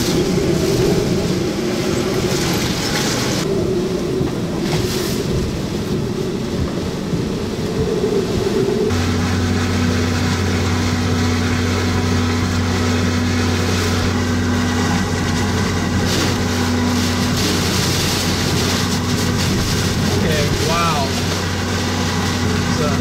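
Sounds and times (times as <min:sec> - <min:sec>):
heavy rain lashing a vehicle: 0:00.0 - 0:23.0
strong wind: 0:00.0 - 0:23.0
vehicle low hum: 0:00.0 - 0:23.0.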